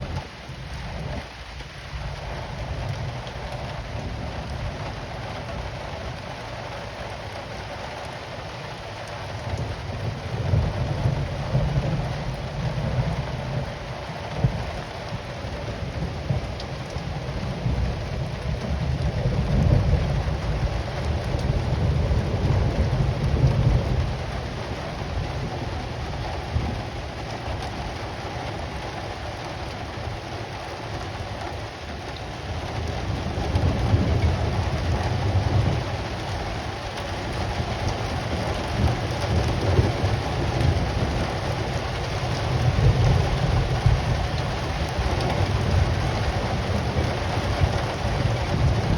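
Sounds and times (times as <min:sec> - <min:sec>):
low rolling thunder: 0:00.0 - 0:48.9
steady rain falling: 0:00.0 - 0:48.9.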